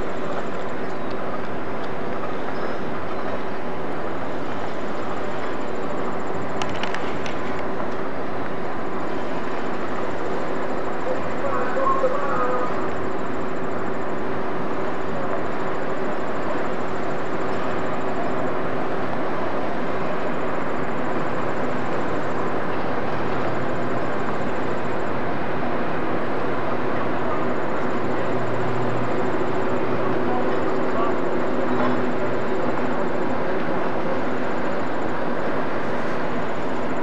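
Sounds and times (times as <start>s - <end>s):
ship machinery rumble and hum: 0.0s - 37.0s.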